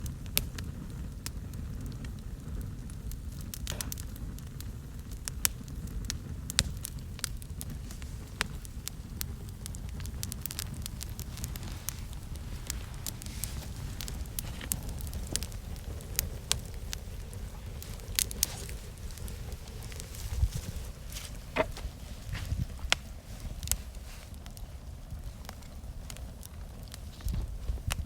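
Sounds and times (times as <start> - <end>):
campfire crackling and popping: 0.0 - 28.0
low roar of flame: 0.0 - 28.0.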